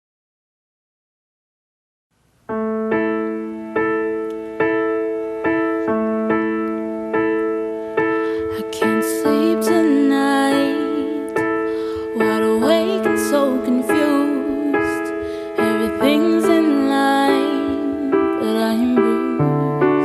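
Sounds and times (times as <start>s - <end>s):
piano playing slow chords: 2.4s - 20.0s.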